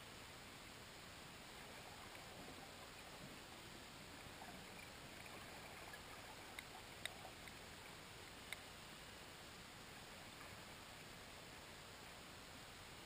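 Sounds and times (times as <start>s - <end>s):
faint underwater hiss: 0.0s - 13.0s.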